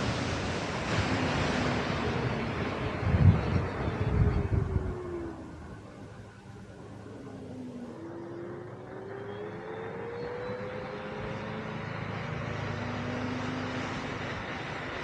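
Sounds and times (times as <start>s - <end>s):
rushing wind noise: 0.0s - 15.0s.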